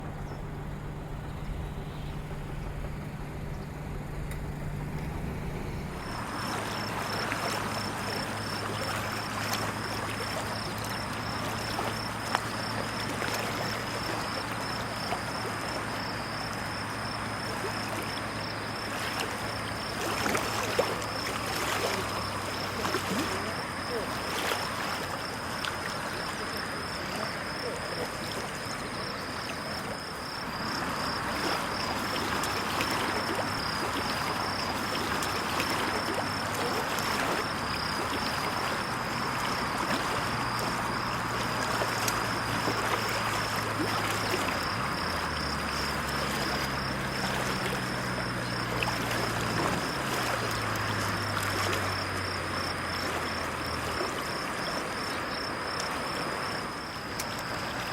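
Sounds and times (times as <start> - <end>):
low engine hum: 0.0 - 57.9
small waves lapping: 0.0 - 57.9.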